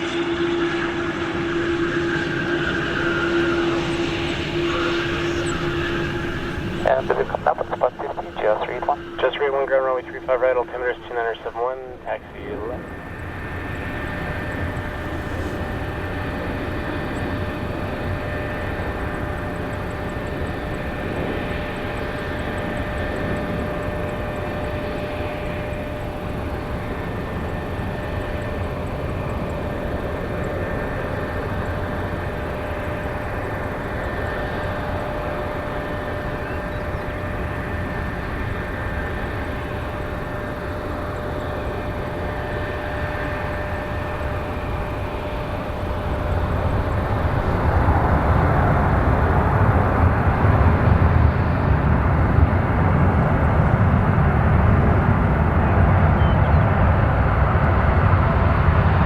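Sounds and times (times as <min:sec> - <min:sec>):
jet engine rumble with whine: 0:00.0 - 0:59.0.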